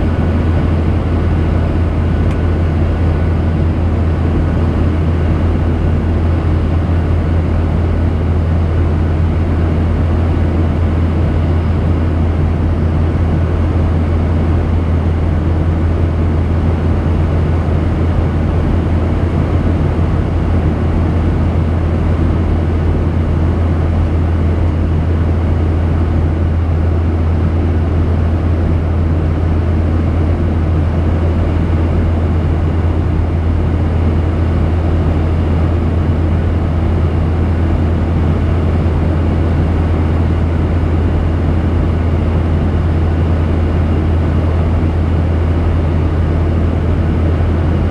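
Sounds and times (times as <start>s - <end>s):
aircraft cabin engine drone: 0.0s - 47.9s.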